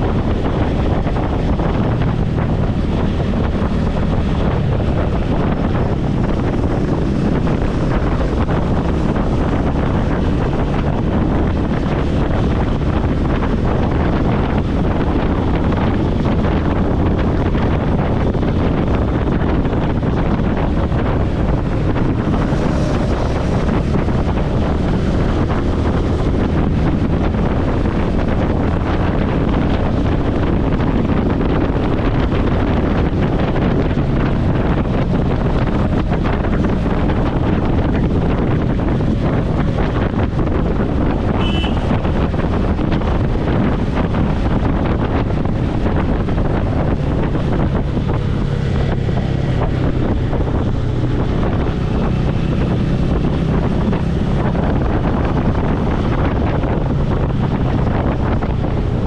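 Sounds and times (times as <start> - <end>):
motorcycle engine: 0.0 - 59.0
road noise: 0.0 - 59.0
wind buffeting microphone: 0.0 - 59.0.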